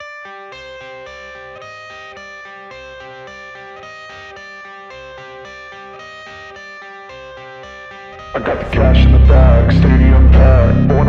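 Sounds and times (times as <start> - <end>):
guitar-led instrumental music: 0.2 - 11.0.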